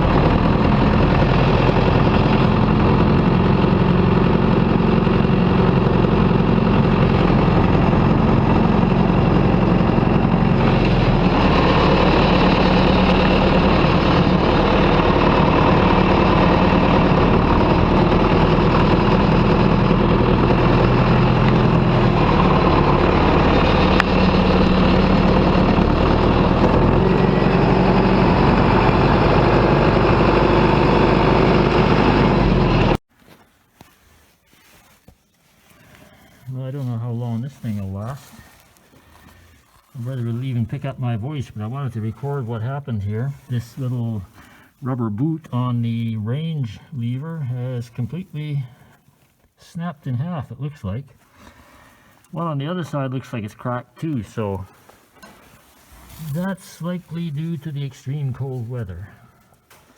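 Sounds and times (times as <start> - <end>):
tractor diesel engine running: 0.0 - 33.0, 34.9 - 49.5, 50.2 - 59.9.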